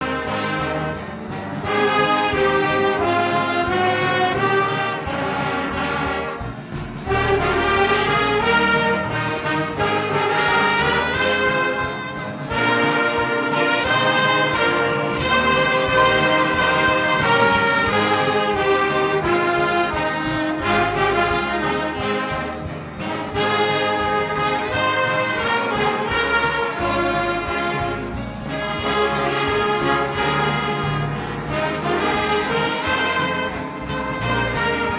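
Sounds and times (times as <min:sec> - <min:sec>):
brass ensemble with trumpets: 0:00.0 - 0:34.9.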